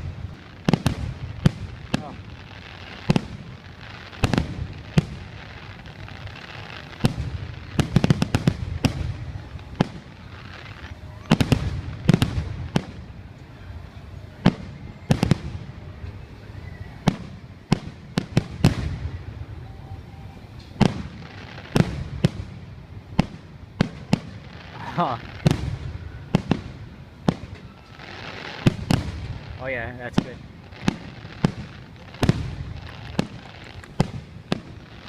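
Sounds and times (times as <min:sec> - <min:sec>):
fireworks booming: 0:00.0 - 0:35.0.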